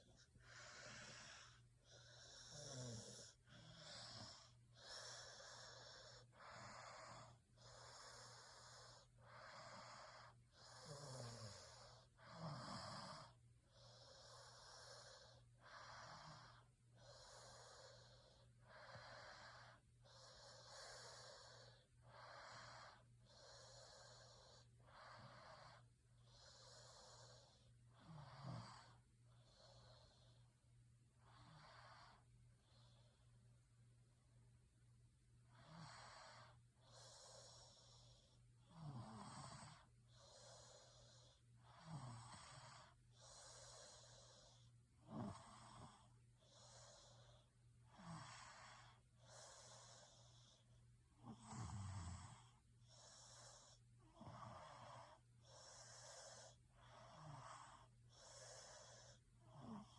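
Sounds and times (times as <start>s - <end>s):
wheezy snoring breaths: 0.0s - 59.9s.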